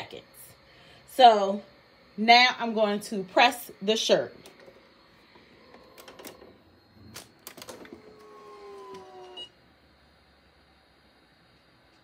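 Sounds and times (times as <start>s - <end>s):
heat press motor whine: 1.2s - 12.0s.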